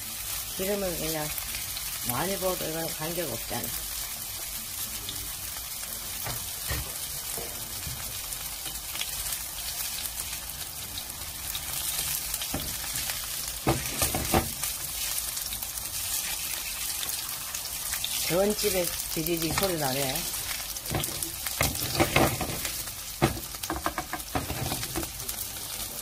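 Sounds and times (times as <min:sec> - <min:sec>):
batter sizzling in oil: 0:00.0 - 0:26.0.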